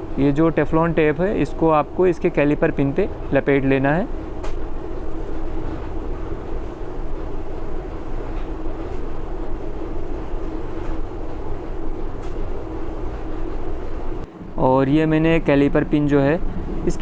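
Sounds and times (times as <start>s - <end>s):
mechanical rumble with hum: 0.0s - 17.0s.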